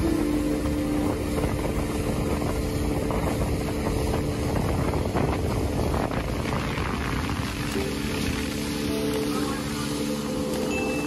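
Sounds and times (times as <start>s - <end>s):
outboard motor droning: 0.0s - 11.0s
water rushing along hull: 0.0s - 11.0s
wind blowing: 0.0s - 11.0s.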